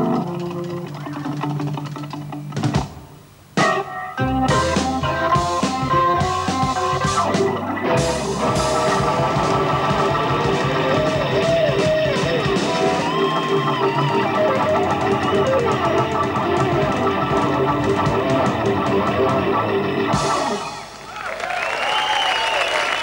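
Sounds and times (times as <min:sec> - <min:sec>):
electric guitar bending notes: 0:00.0 - 0:21.1
hammond organ chords: 0:00.0 - 0:21.2
drums: 0:00.0 - 0:23.0.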